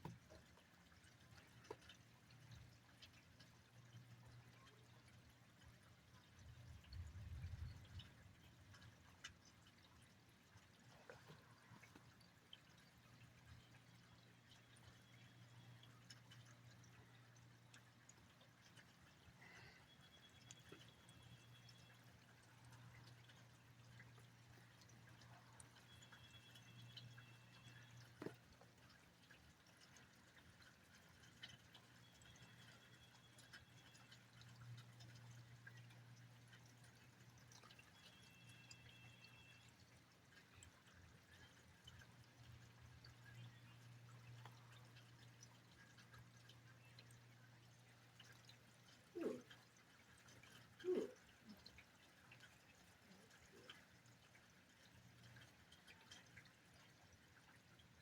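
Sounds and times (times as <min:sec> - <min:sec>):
faint rain pouring: 0:00.0 - 0:58.0
water drip ticks: 0:00.0 - 0:58.0.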